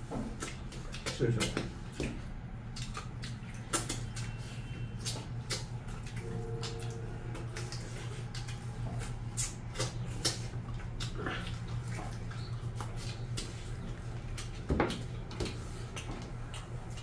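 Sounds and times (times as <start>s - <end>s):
people chewing and lip-smacking: 0.0s - 17.0s
steady low hum: 0.0s - 17.0s.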